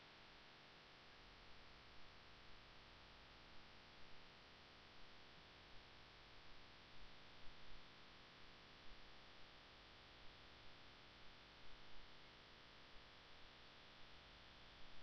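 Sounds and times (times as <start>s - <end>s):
faint line noise hiss: 0.0s - 15.0s.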